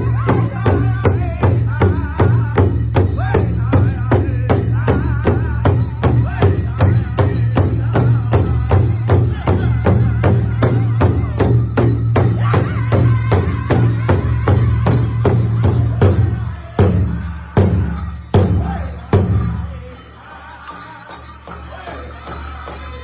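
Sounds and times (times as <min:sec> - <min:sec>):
big drum beating: 0:00.0 - 0:19.7
jingles: 0:00.0 - 0:23.0
people singing: 0:00.0 - 0:23.0.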